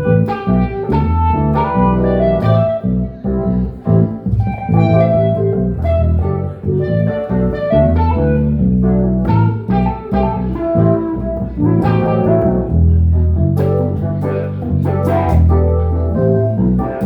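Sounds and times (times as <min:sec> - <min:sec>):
bass line: 0:00.0 - 0:17.0
guitar playing quick notes: 0:00.0 - 0:17.0.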